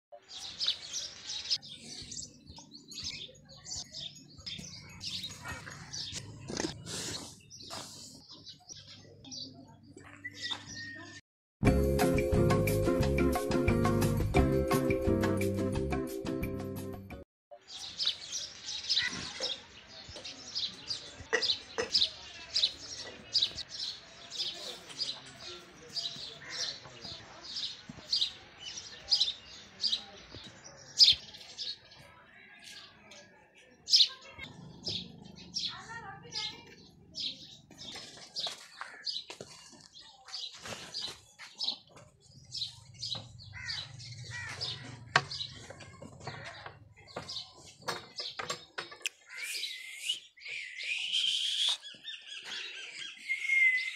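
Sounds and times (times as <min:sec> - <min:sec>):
small birds chirping: 0:00.2 - 0:11.2, 0:17.6 - 0:53.9.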